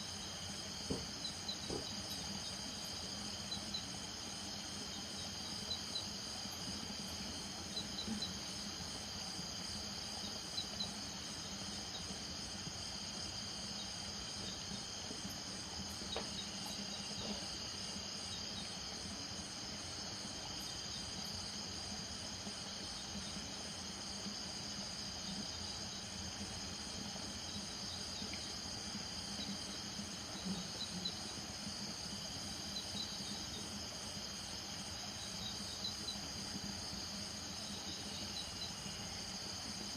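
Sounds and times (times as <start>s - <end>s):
insect chirps: 0.0s - 39.9s
insects trilling: 0.0s - 39.9s.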